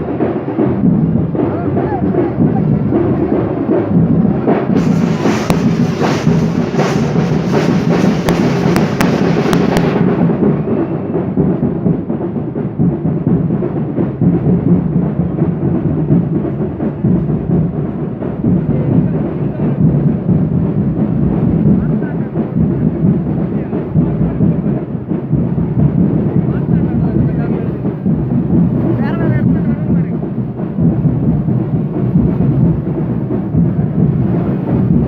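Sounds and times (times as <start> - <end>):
dense din: 0.0 - 35.0
loud continuous drumming: 0.0 - 35.0.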